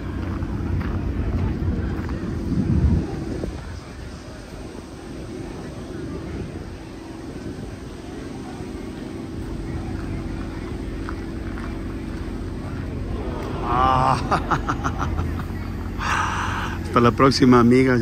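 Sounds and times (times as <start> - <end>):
motor droning: 0.0 - 17.9
outdoor background noise: 0.0 - 18.0.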